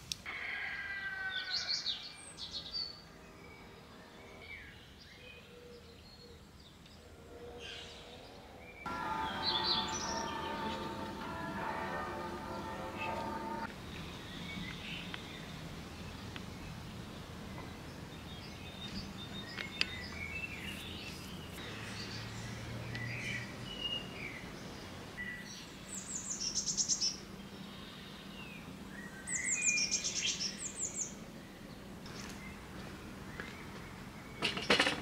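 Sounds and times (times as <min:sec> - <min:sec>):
songbirds singing: 0:01.3 - 0:35.0.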